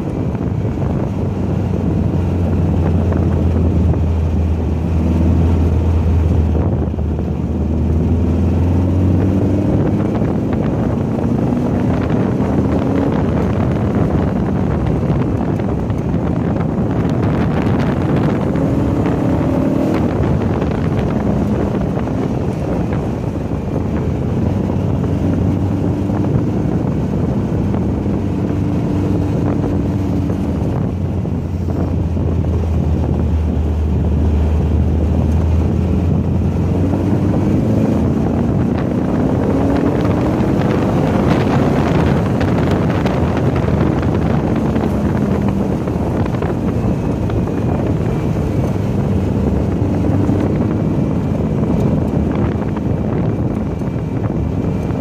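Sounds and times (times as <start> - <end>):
car engine revving: 0.0 - 55.0
wind noise on microphone: 0.0 - 55.0.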